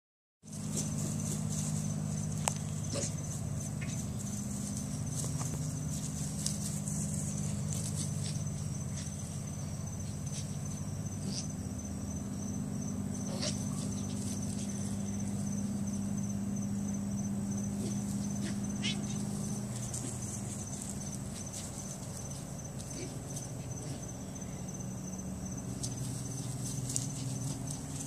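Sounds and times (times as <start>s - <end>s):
insect chorus trilling: 0.5s - 28.0s.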